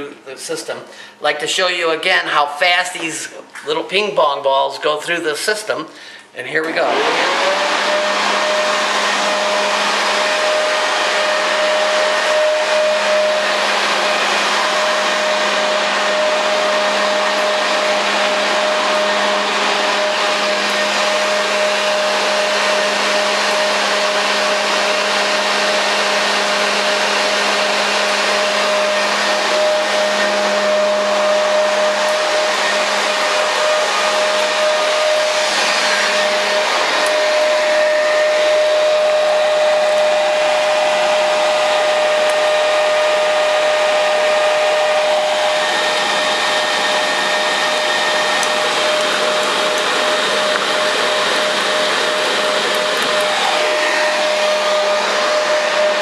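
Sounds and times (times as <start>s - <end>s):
leaf blower running: 6.0s - 56.0s.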